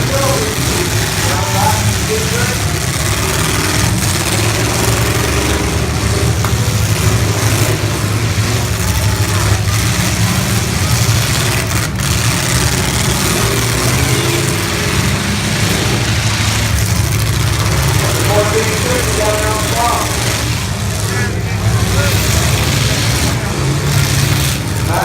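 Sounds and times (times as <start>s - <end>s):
car engines rumbling and revving: 0.0s - 25.0s.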